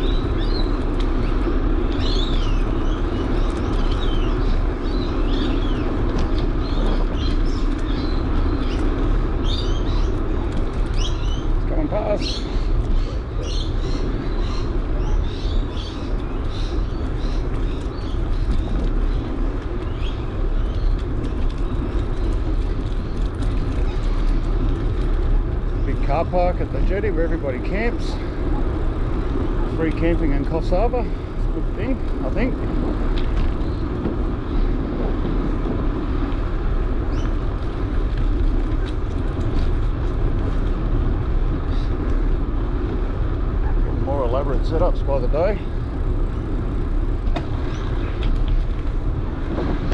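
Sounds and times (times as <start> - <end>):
birds chirping: 0.0 - 35.8, 42.8 - 48.7
bicycle riding noise: 0.0 - 49.9
wind rumbling on microphone: 0.0 - 49.9.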